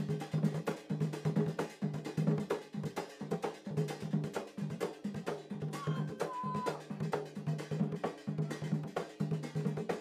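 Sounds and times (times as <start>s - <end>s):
barrel drums playing fast rhythm: 0.0s - 10.0s.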